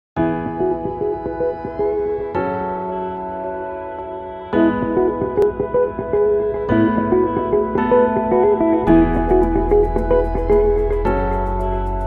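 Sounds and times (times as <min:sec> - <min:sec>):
background music with sustained chord: 0:00.2 - 0:12.0.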